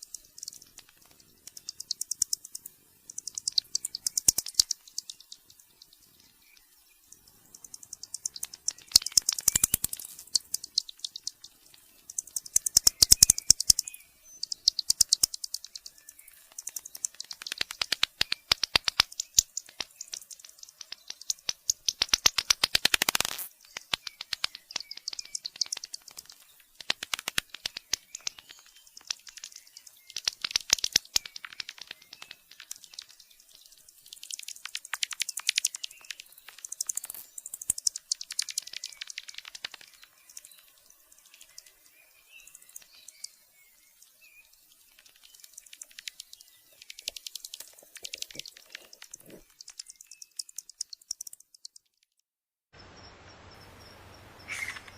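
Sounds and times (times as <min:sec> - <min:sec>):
bats clicking and chirping: 0:00.0 - 0:52.0, 0:53.8 - 0:54.9.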